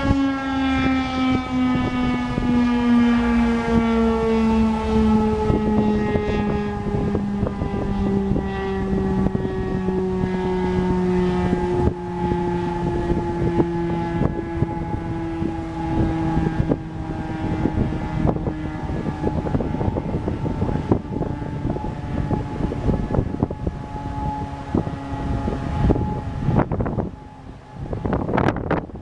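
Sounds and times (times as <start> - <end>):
rotating siren winding down: 0.0 - 29.0
wind buffeting microphone: 0.0 - 29.0.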